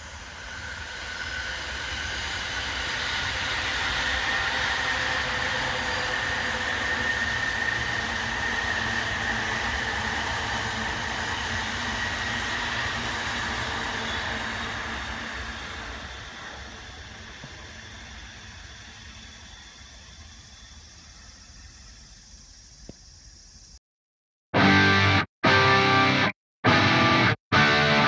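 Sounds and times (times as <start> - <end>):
freight train rolling past: 0.0 - 22.7.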